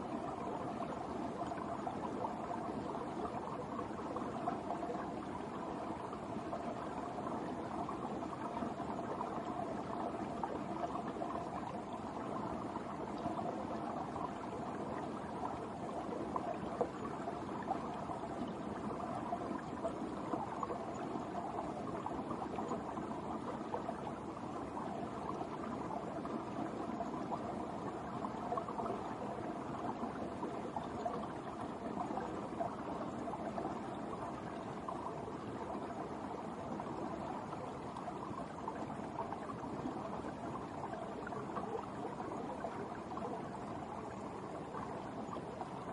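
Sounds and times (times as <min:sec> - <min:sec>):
brook water trickling: 0:00.0 - 0:45.9.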